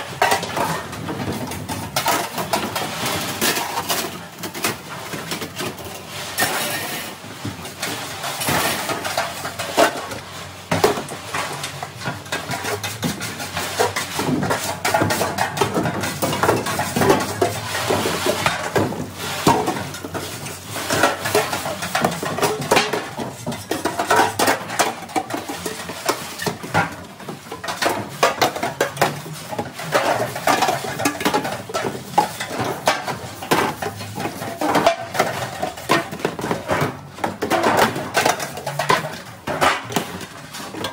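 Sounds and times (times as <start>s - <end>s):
metal pans clattering in sink: 0.0s - 40.9s.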